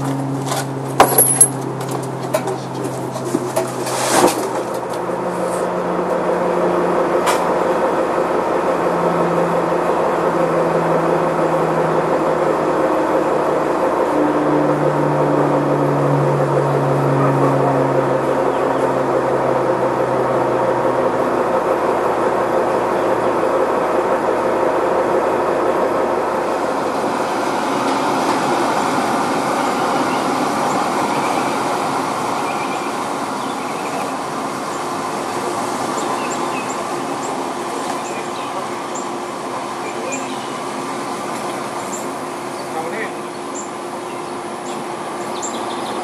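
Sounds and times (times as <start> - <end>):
engine rumble: 0.0 - 46.0
birds chirping: 8.9 - 46.0.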